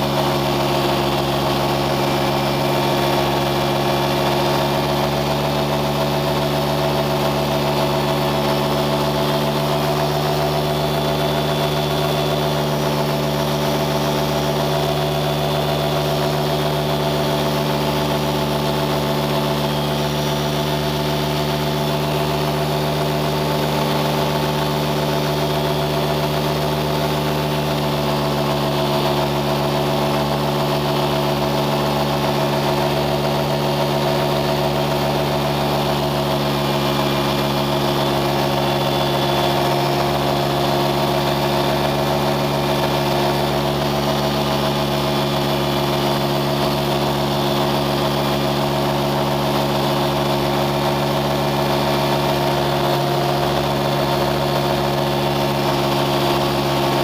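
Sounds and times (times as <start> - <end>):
engine humming steadily: 0.0 - 57.0.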